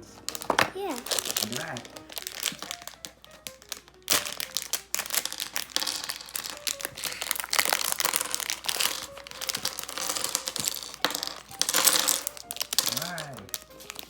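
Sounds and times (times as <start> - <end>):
packaging and paper crinkling: 0.0 - 14.0
small plastic clicks: 0.2 - 14.0.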